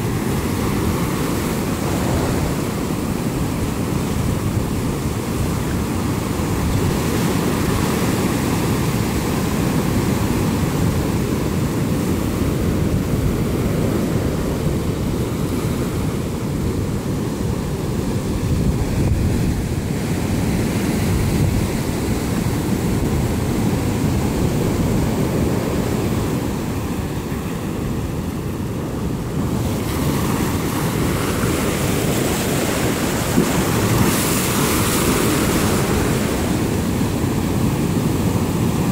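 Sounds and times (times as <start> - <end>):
surf washing around boulders: 0.0 - 38.9.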